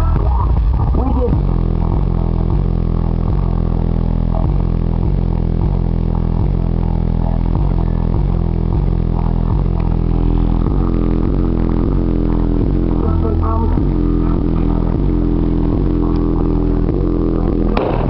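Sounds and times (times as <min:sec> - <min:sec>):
bass-heavy music from car stereo: 0:00.0 - 0:18.0.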